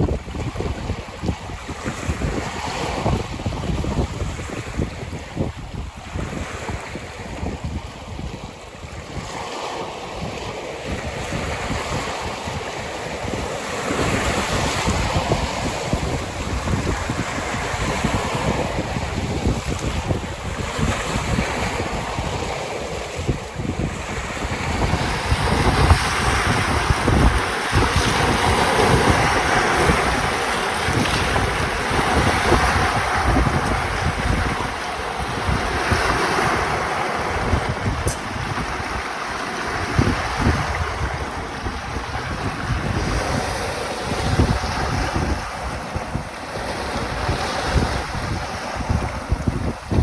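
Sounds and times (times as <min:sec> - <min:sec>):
waves washing onto shore: 0:00.0 - 0:50.0
wind buffeting microphone: 0:00.0 - 0:50.0.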